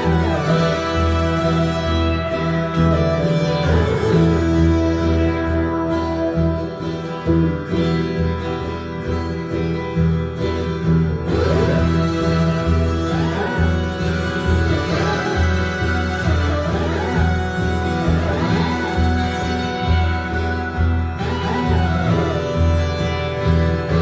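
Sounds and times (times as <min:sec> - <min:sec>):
music with pulsing bass: 0:00.0 - 0:24.0.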